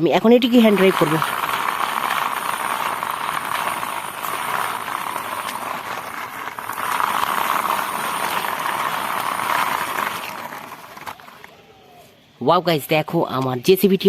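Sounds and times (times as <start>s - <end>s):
plastic toy wheels rolling on wall: 0.0s - 11.6s.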